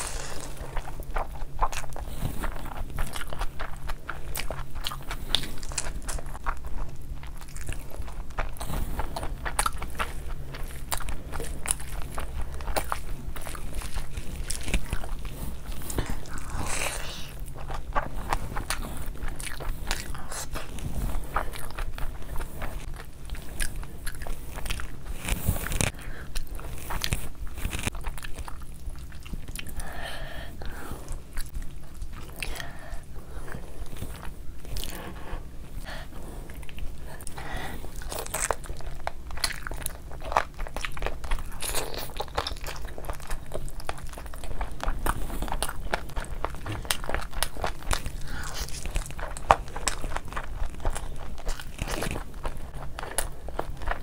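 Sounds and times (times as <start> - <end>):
chewing and biting food: 0.0 - 54.0
low steady hum: 0.0 - 54.0.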